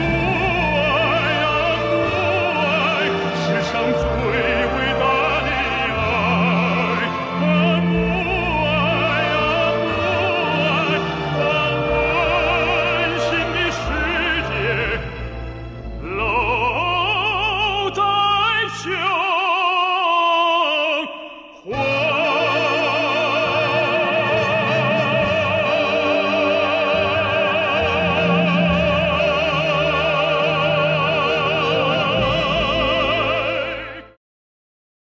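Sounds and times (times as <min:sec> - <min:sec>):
baritone singing with vibrato: 0:00.0 - 0:34.2.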